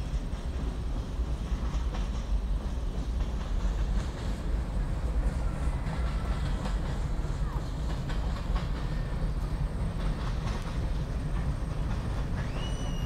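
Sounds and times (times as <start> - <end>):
freight train rumbling past: 0.0 - 13.0
train wheels clicking: 0.0 - 13.0.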